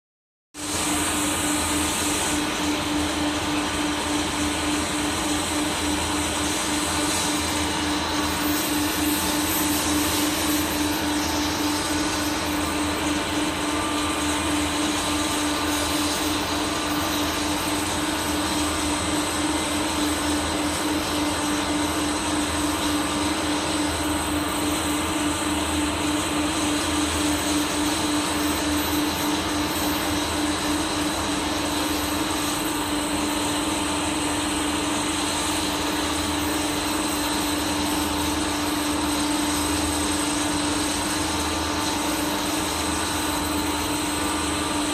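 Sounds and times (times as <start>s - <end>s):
machine hum and hiss: 0.6s - 44.9s.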